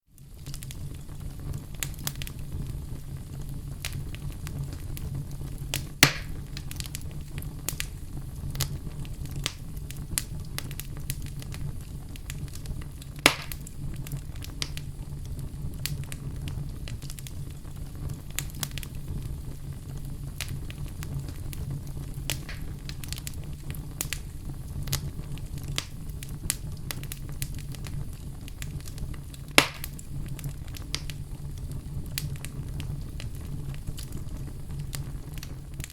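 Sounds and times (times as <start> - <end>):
fire crackling: 0.0 - 35.9
low rumble of flames: 0.0 - 35.9
loud fire pops: 0.2 - 35.9.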